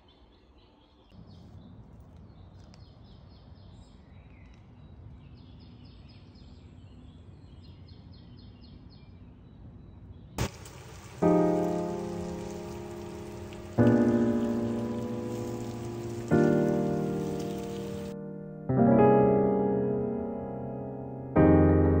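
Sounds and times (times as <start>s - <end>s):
bird chirping: 0.0s - 18.2s.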